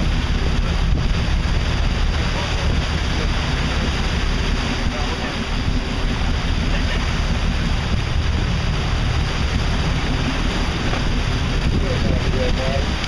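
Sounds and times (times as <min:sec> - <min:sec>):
boat engine low rumble: 0:00.0 - 0:13.0
water rushing past hull: 0:00.0 - 0:13.0
wind buffeting microphone: 0:00.0 - 0:13.0.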